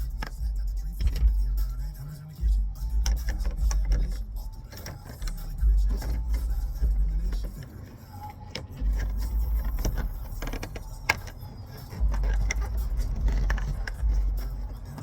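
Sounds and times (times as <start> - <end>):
low rumble: 0.0 - 7.6, 8.8 - 11.1, 12.0 - 15.0
clicks and metallic rattles: 0.0 - 15.0.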